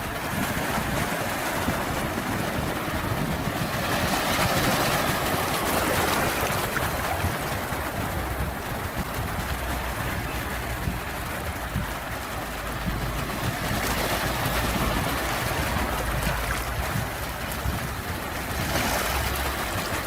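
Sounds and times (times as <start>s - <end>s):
sea waves washing in: 0.0s - 20.0s.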